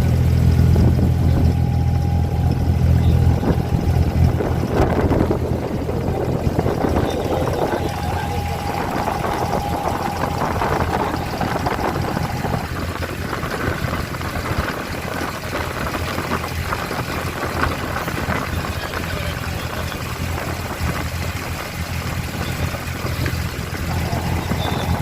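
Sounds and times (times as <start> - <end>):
diesel boat engine running: 0.0 - 25.0
water noise: 0.0 - 25.0.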